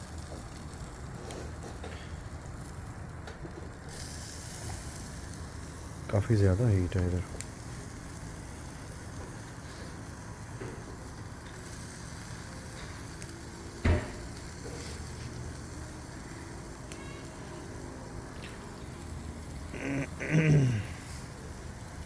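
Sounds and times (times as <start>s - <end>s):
fish sizzling on a grill: 0.0s - 22.0s.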